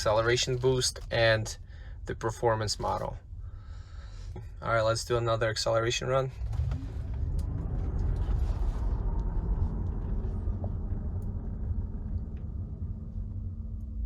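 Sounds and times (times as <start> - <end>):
faint steady hum: 0.0 - 14.0
low road rumble in car cabin: 0.0 - 14.0.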